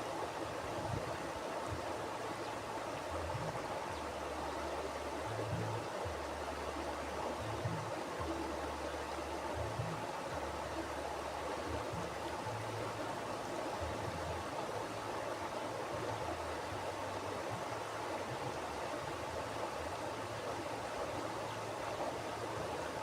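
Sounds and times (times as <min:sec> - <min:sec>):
river flowing over rocks: 0:00.0 - 0:23.0.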